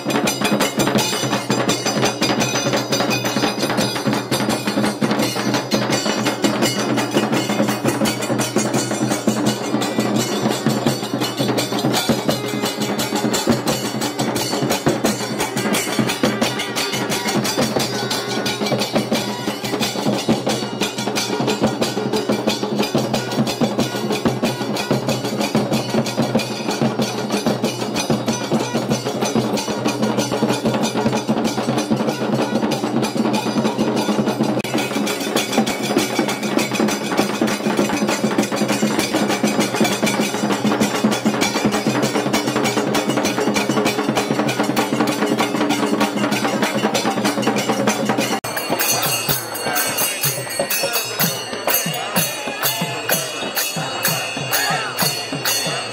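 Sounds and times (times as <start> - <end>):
music with fast dense drumming: 0.0 - 55.9.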